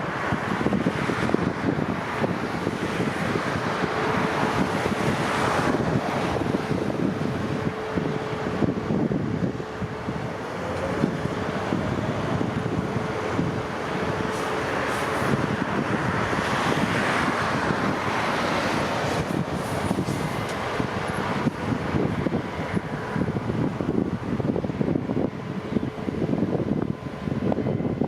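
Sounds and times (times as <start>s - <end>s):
jet engines roaring: 0.0s - 28.0s
wind buffeting microphone: 0.0s - 28.0s.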